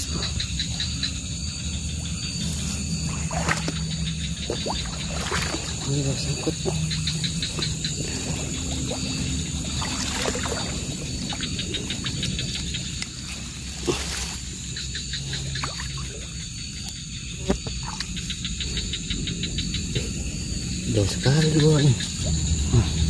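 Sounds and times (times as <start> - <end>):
fast insect chirps: 0.0 - 23.0
insects trilling: 0.0 - 23.0.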